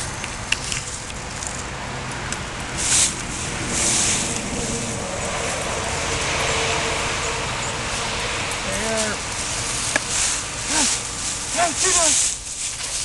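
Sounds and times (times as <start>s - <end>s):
dry leaves rustling and crunching: 0.0s - 13.0s
steady background noise: 0.0s - 13.0s.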